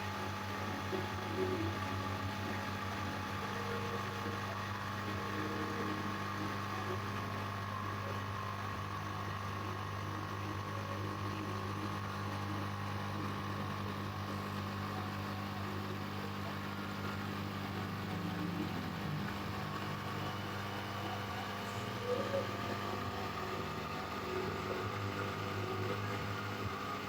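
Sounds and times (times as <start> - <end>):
machine drone with low hum: 0.0 - 27.0.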